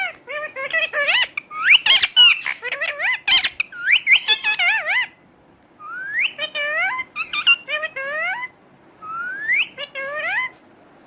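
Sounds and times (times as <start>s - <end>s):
parrot squeaks and chirps: 0.0s - 5.2s, 5.8s - 10.6s.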